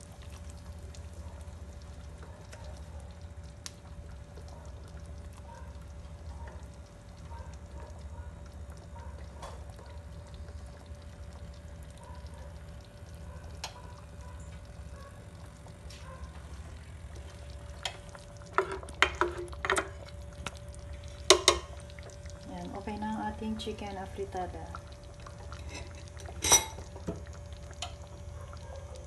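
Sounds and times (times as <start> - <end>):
faint hum: 0.0 - 29.0
soup simmering with bubbles popping: 0.0 - 29.0.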